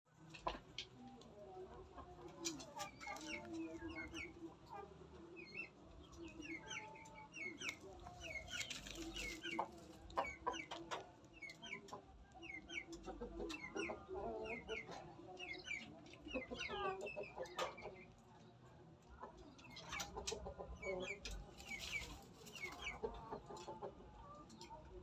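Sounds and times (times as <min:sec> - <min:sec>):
chickens clucking: 0:00.2 - 0:25.0.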